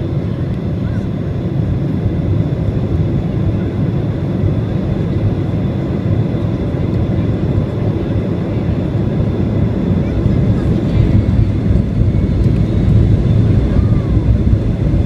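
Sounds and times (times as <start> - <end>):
faint high engine whine: 0.0 - 15.0
jet engines low rumble: 0.0 - 15.0.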